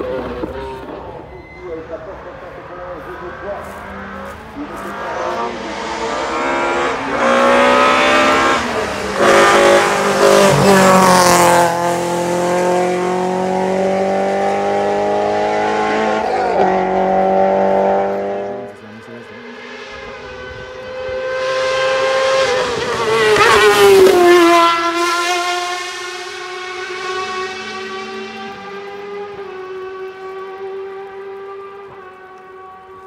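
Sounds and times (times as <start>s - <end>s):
car engine revving hard: 3.2s - 33.0s.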